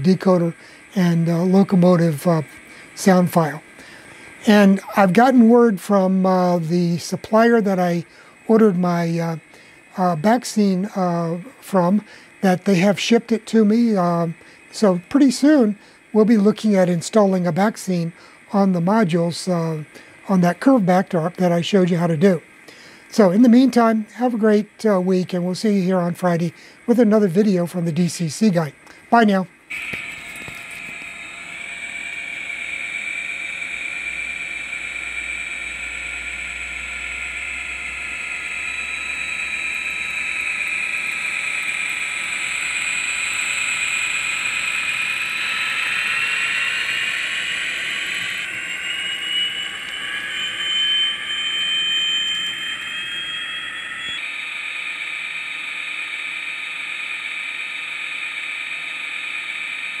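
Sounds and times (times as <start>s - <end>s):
high whistling tone: 0.0s - 60.0s
model locomotive diesel engine sound: 0.0s - 60.0s
turbocharger whine: 0.0s - 60.0s.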